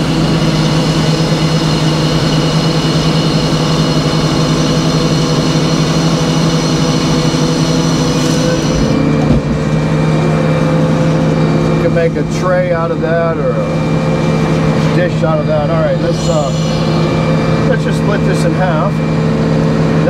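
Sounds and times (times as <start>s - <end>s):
circular saw blade whining: 0.0s - 11.9s, 12.8s - 19.5s
sawmill drone: 0.0s - 20.0s.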